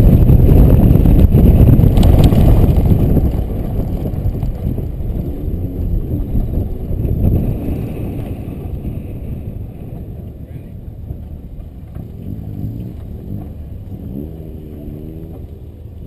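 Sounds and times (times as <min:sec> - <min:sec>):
car engine and tyre rumble: 0:00.0 - 0:16.0
wind buffeting: 0:00.0 - 0:16.0.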